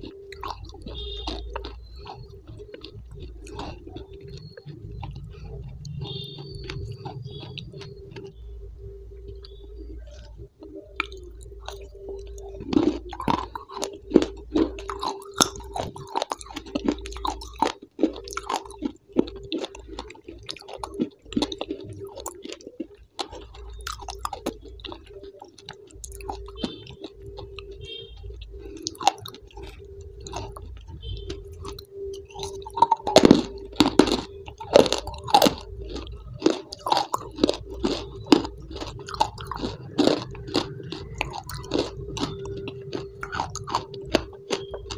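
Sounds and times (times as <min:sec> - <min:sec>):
chewing and crunching: 0:00.0 - 0:44.9
steady hum: 0:00.0 - 0:44.9.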